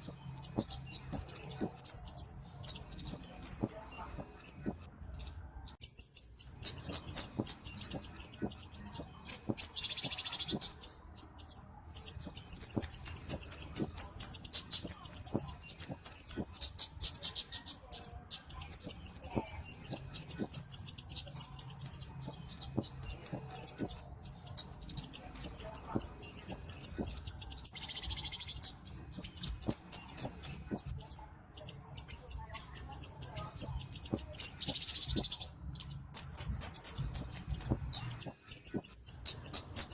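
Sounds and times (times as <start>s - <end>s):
high-pitched bird chips: 0.0s - 39.9s.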